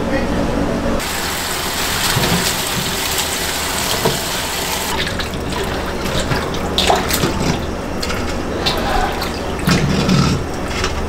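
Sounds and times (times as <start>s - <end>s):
hands splashing water: 1.0s - 11.0s
tap running into a metal bowl: 1.6s - 11.0s.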